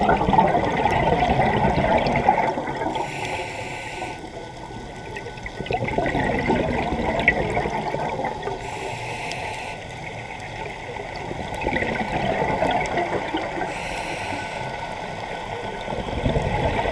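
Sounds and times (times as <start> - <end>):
underwater bubbles gurgling: 0.0 - 16.9.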